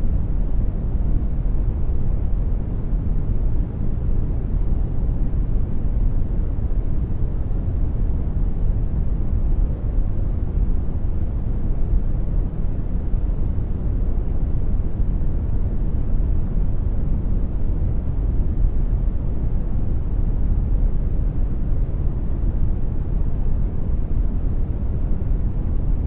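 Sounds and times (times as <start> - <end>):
brown noise rumbling hiss: 0.0 - 26.0.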